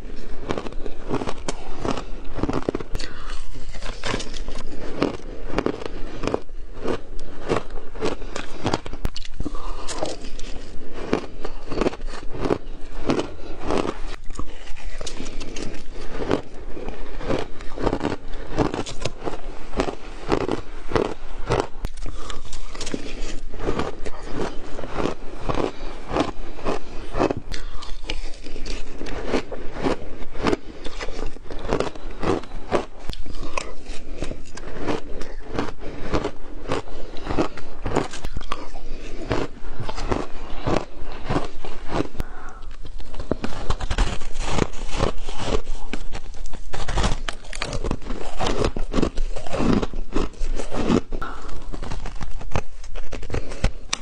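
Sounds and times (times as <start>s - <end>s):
chewing crunchy ice: 0.0s - 54.0s.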